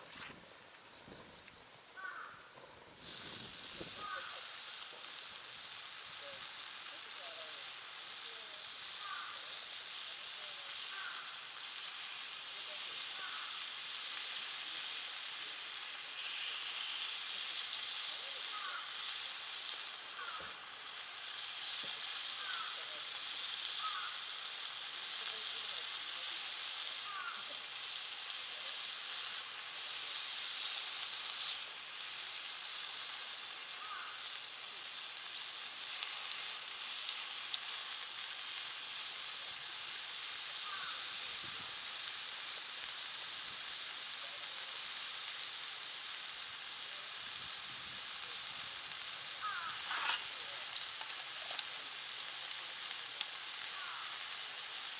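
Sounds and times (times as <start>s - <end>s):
meat sizzling on a grill pan: 1.9s - 54.9s.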